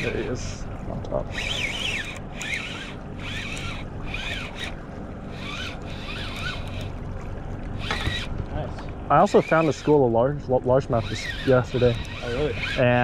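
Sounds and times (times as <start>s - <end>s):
fishing reel whirring: 0.0s - 8.4s, 9.1s - 13.0s.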